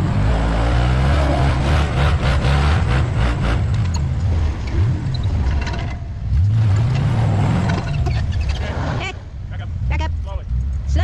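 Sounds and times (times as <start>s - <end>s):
truck engines under load: 0.0s - 11.0s.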